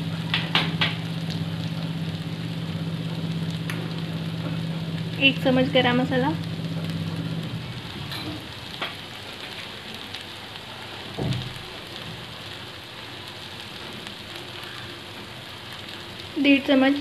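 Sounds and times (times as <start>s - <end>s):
paste frying in oil: 0.0s - 17.0s.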